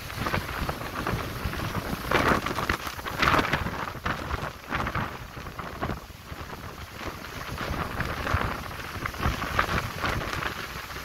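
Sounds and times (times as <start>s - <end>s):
stormy sea breaking against boat: 0.0s - 11.0s
wind rumble on microphone: 0.0s - 11.0s.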